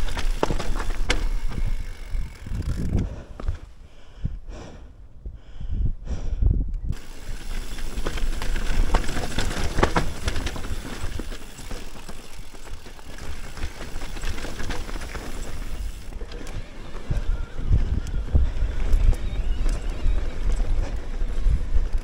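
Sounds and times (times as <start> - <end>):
bike clicks and rattles: 0.0 - 3.8, 6.9 - 22.0
bike tyres rolling over dirt and rocks: 0.0 - 3.8, 6.9 - 22.0
wind buffeting microphone: 0.0 - 22.0.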